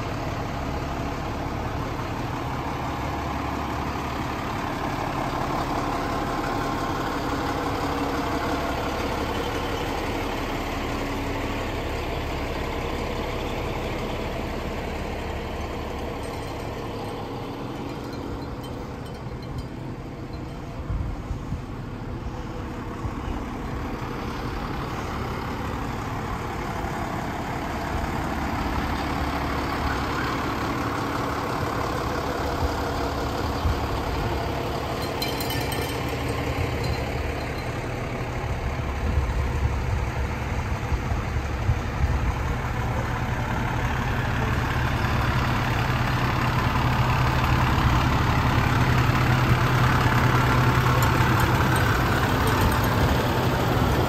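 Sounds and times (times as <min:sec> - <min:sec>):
diesel engines idling: 0:00.0 - 0:54.0.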